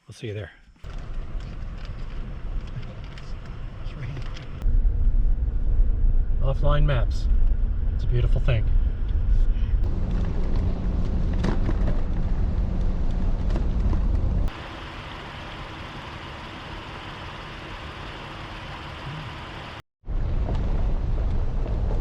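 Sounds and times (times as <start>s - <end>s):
car road rumble: 0.8s - 22.0s
road and wind hiss: 0.9s - 22.0s.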